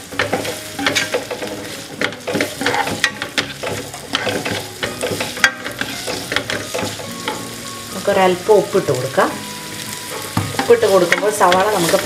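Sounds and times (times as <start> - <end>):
spoon scraping and knocking pan: 0.0 - 7.8, 9.9 - 12.0
onions sizzling in hot oil: 0.0 - 12.0.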